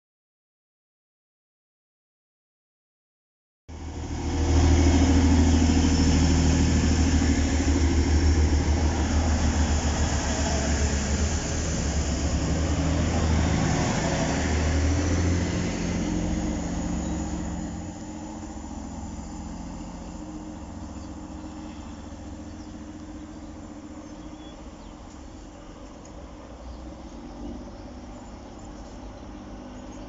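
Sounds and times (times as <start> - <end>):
train engine and wheel noise: 3.7 - 30.0.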